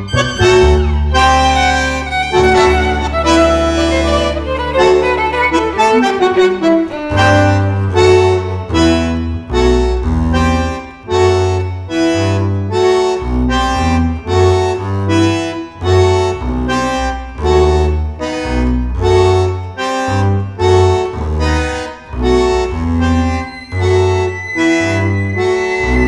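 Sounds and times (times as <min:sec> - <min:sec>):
bandoneon playing detached chords: 0:00.0 - 0:26.0
double bass notes: 0:00.0 - 0:26.0.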